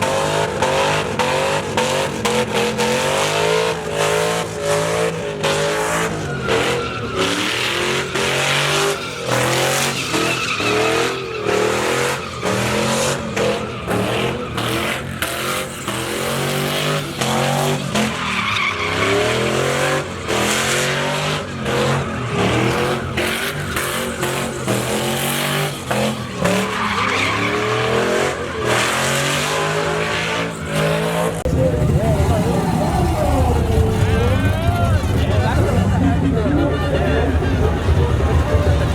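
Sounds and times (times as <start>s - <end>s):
tires squealing on pavement: 0.0s - 38.9s
truck engine revving: 0.0s - 38.9s.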